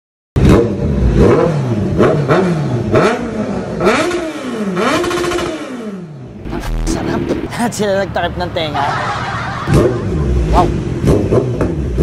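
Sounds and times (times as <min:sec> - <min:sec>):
motorcycle engine revving: 0:00.4 - 0:07.5, 0:09.0 - 0:12.0.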